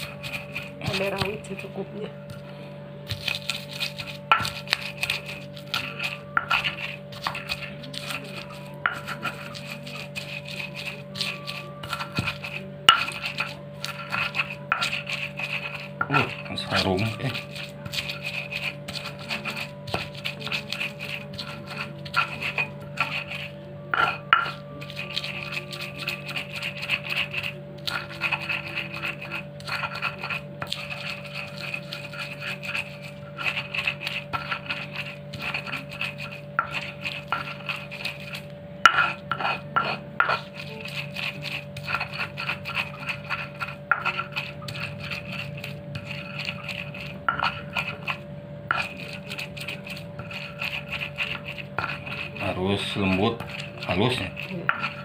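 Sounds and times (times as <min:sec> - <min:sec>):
steady low hum: 0:00.0 - 0:55.0
stone pestle grinding in mortar: 0:00.0 - 0:55.0.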